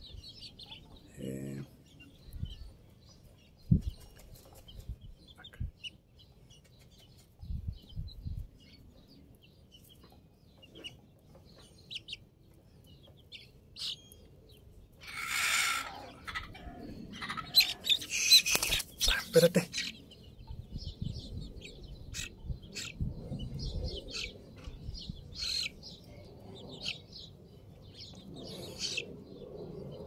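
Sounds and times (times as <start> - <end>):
chicks peeping: 0.0 - 29.4.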